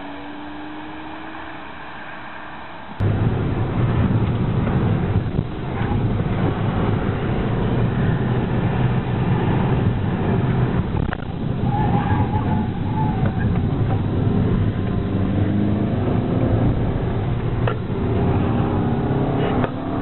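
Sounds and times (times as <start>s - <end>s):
car engine and road noise drone: 0.0s - 20.0s.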